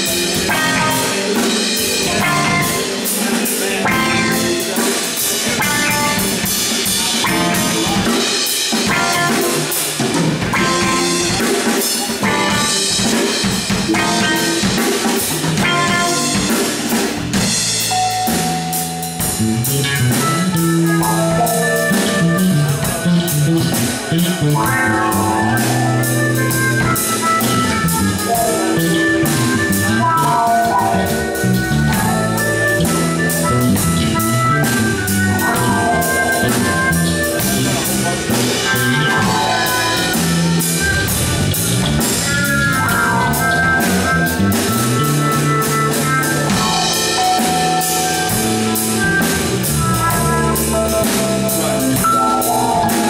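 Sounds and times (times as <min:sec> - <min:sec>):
drum kit with busy cymbals: 0:00.0 - 0:53.0
electric bass line: 0:00.0 - 0:53.0
electric guitar: 0:00.0 - 0:53.0.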